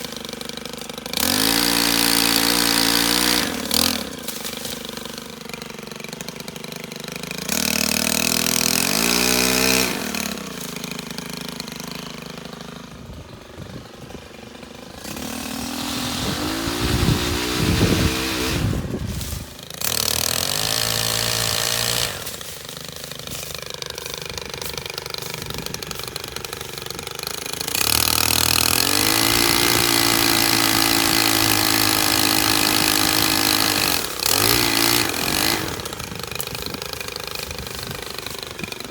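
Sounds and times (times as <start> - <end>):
pole saw engine revving: 0.0 - 38.9.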